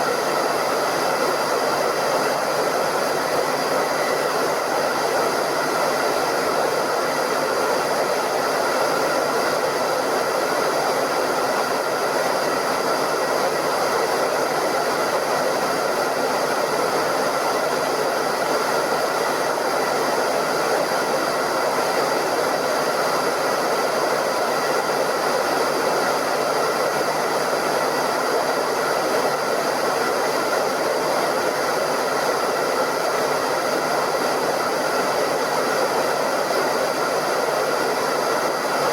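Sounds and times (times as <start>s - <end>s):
hairdryer running: 0.0s - 38.9s.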